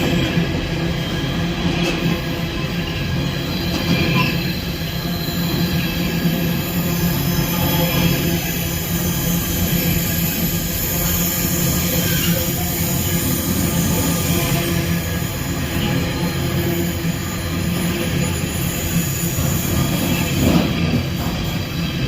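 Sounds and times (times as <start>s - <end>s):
freight train running past: 0.0s - 22.0s.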